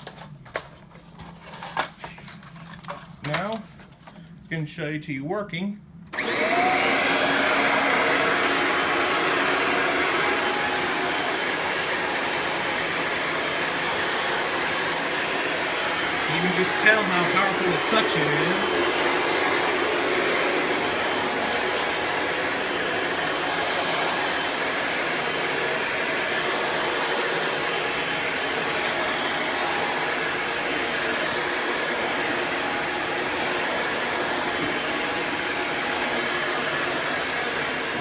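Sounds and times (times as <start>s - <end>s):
vacuum cleaner motor running: 6.1s - 38.0s.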